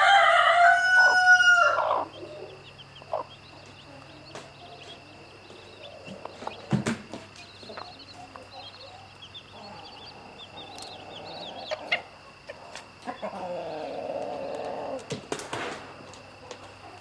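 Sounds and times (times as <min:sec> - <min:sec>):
chicks peeping: 0:00.0 - 0:15.3.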